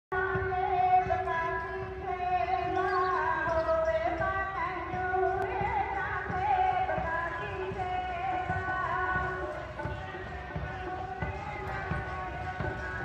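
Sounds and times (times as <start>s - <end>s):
devotional singing: 2.4s - 13.0s.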